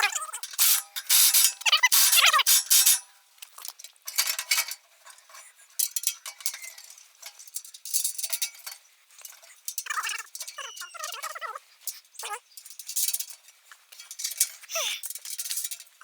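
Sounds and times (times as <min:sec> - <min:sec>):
metal parts clinking and rattling: 0:00.0 - 0:03.1, 0:03.8 - 0:11.3, 0:11.9 - 0:16.0.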